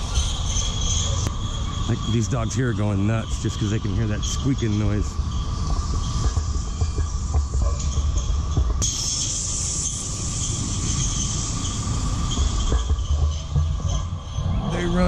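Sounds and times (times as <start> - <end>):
loud hiss: 0.0 - 15.0
mechanical lure squeaking on rail: 0.0 - 15.0.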